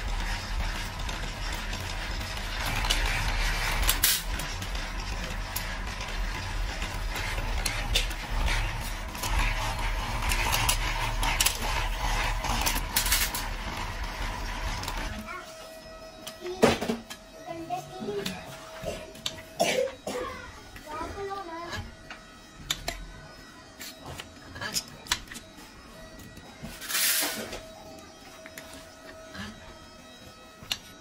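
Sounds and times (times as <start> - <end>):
roller machine humming: 0.0 - 31.0.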